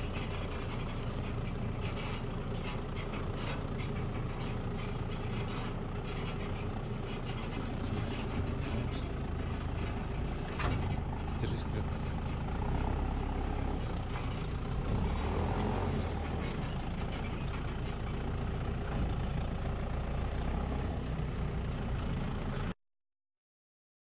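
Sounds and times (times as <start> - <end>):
excavator diesel engine running: 0.0 - 22.8.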